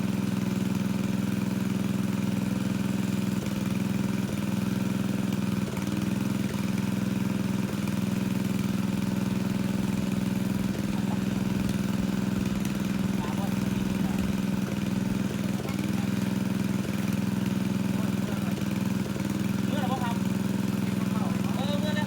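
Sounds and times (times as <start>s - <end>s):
water pump engine running: 0.0s - 22.0s.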